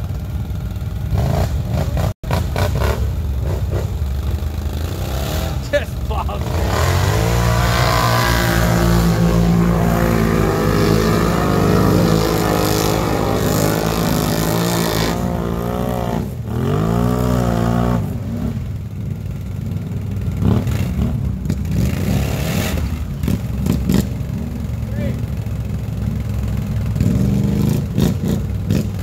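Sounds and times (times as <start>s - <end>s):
atv engines revving: 0.0s - 29.0s.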